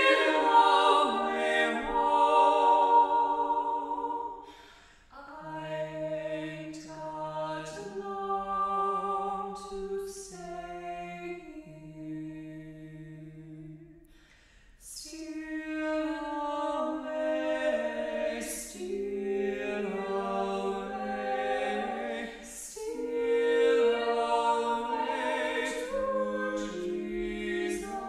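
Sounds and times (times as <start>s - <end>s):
vocal trio singing in harmony: 0.0s - 28.0s.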